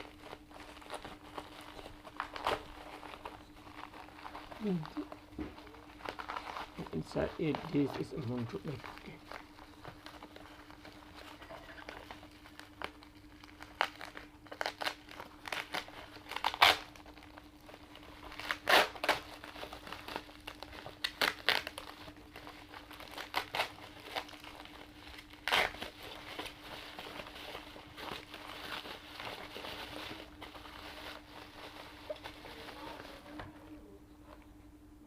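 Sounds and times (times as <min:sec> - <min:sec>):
sharp packaging crackles: 0:00.0 - 0:33.3
packaging crinkling and rustling: 0:00.0 - 0:33.4.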